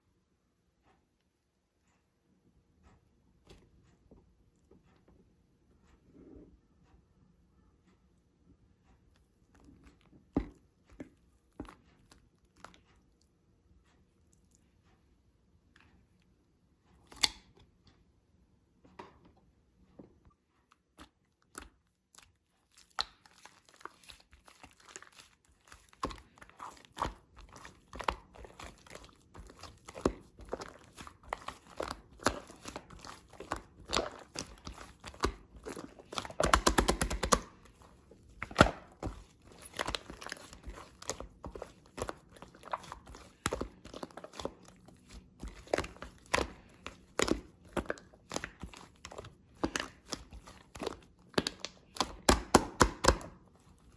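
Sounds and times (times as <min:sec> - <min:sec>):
slime squishing with sticky clicks: 0:07.8 - 0:18.3, 0:20.6 - 0:53.9.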